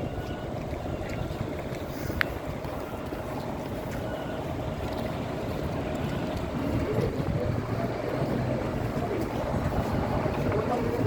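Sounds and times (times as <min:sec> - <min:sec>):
indistinct voices: 0:00.0 - 0:11.0
low city rumble: 0:00.0 - 0:11.0.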